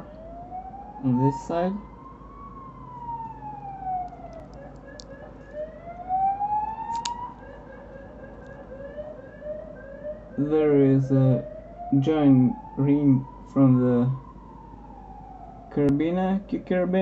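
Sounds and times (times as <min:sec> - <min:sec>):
siren wailing: 0:00.0 - 0:16.5.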